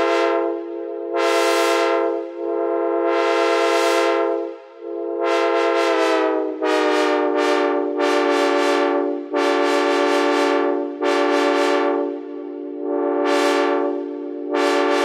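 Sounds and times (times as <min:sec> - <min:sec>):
train horn blasts: 0:00.0 - 0:15.0.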